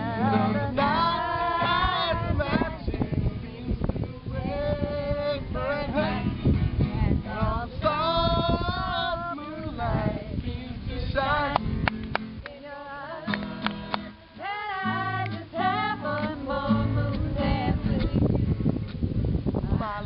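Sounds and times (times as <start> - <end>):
strummed guitar: 0.0 - 12.4, 13.2 - 19.2
group singing together: 0.0 - 18.4.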